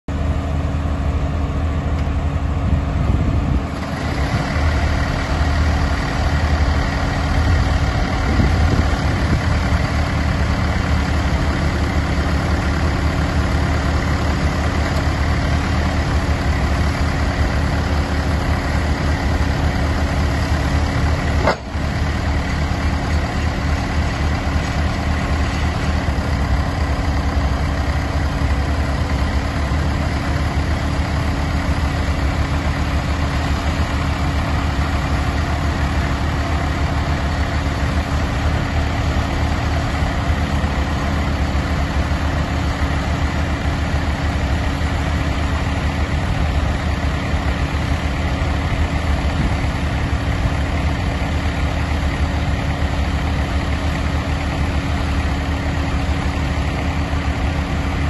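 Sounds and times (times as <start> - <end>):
engine running steadily: 0.1 - 58.0
hydraulics working: 0.1 - 58.0.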